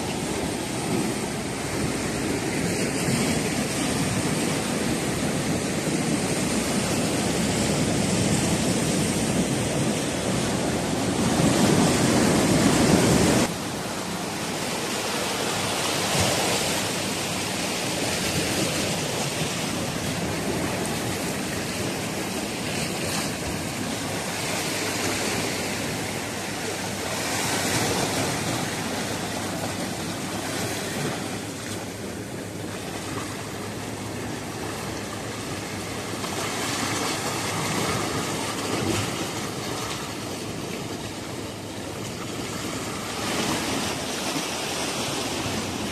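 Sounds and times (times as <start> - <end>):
surf washing against rocks: 0.0 - 45.9.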